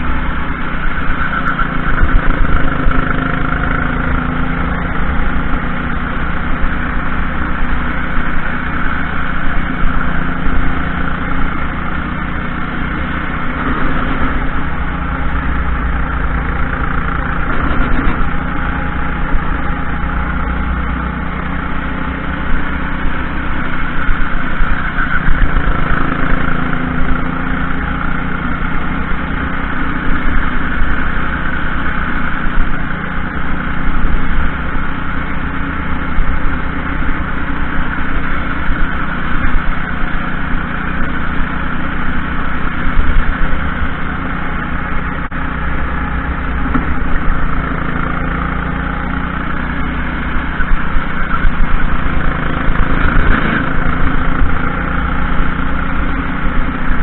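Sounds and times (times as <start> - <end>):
kart engine running: 0.0 - 57.0
road noise: 0.0 - 57.0.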